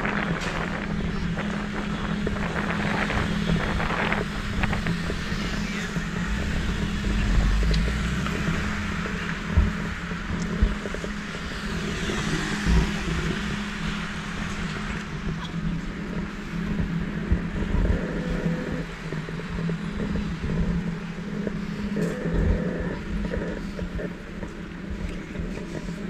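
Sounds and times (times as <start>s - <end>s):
street traffic: 0.0s - 26.0s
gimbal motors humming: 1.2s - 26.0s.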